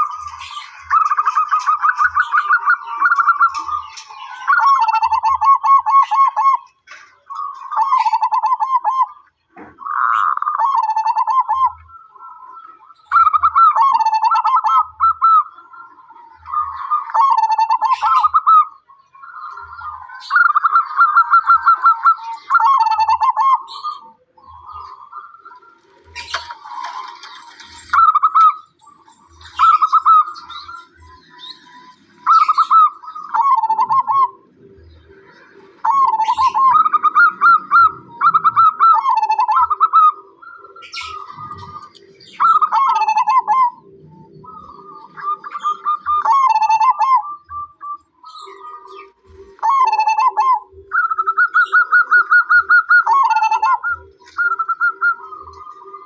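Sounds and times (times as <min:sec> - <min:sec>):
dove cooing: 0:00.0 - 0:56.0
small birds chirping: 0:00.0 - 0:56.0.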